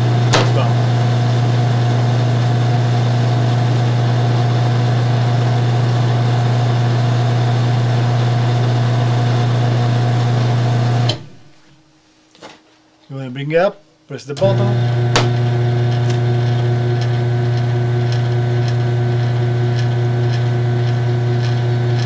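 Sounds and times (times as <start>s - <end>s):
garage door opener motor humming: 0.0s - 11.6s, 14.4s - 22.0s.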